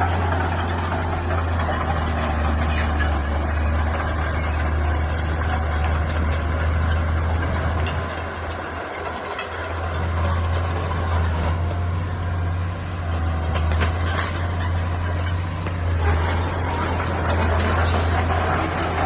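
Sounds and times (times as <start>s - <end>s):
heavy diesel engine humming: 0.0s - 19.0s.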